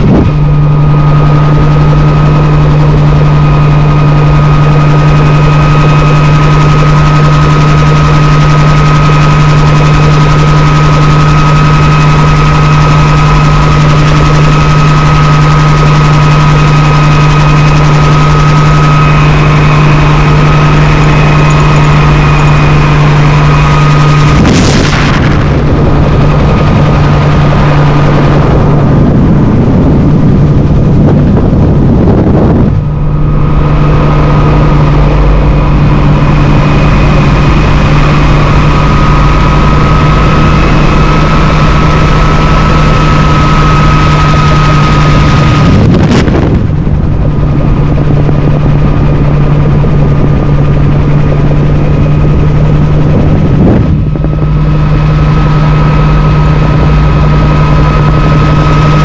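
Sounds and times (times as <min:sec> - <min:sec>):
helicopter engine and rotor drone: 0:00.0 - 0:59.0
high-pitched whine: 0:00.0 - 0:59.0.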